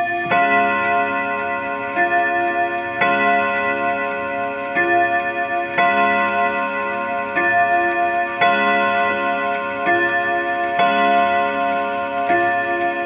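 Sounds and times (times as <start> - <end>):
wall clock striking gong rods: 0.0 - 13.0.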